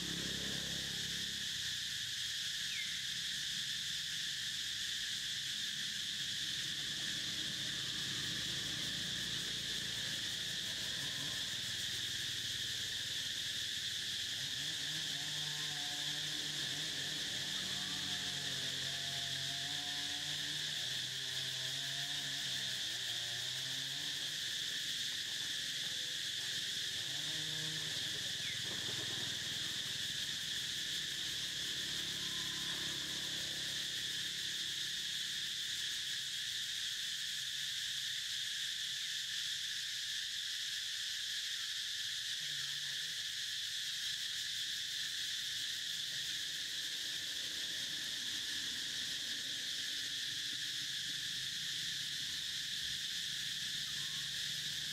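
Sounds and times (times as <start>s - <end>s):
insect chorus buzzing: 0.0s - 54.9s.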